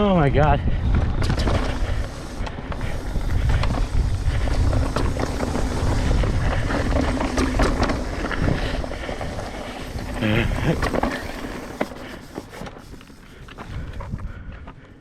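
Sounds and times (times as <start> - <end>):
mountain bike rattling on dirt trail: 0.0 - 14.6
wind buffeting microphone: 0.0 - 15.0.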